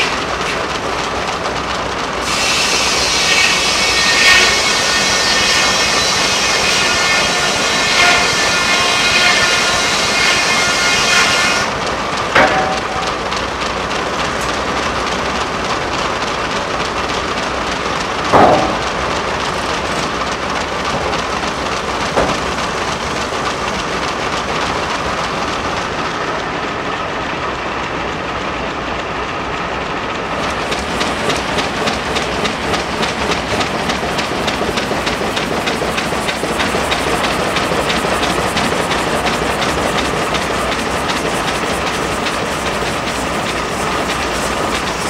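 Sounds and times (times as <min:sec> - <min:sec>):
sawmill machinery clattering: 0:00.0 - 0:28.2, 0:30.3 - 0:45.0.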